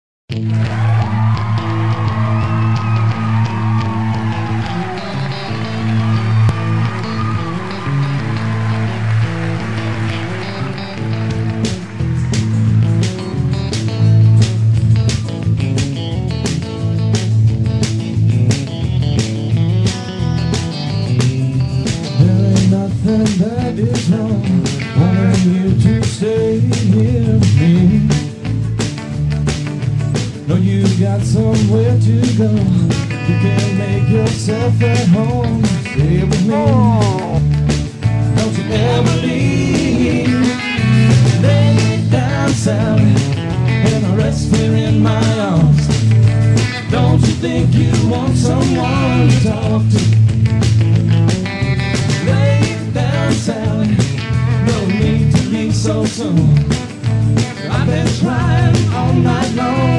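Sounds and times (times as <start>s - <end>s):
bluesy guitar band music: 0.3s - 59.9s
steady drum beat: 0.5s - 59.9s.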